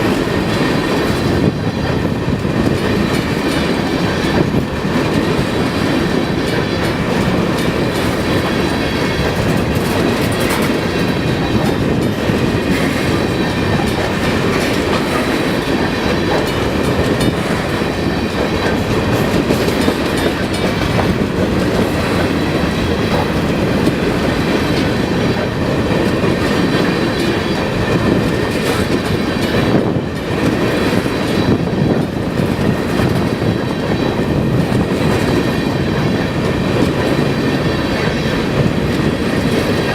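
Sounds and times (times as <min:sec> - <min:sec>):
freight train rumbling past: 0:00.0 - 0:39.9
steel wheels clattering on rail joints: 0:00.0 - 0:39.9.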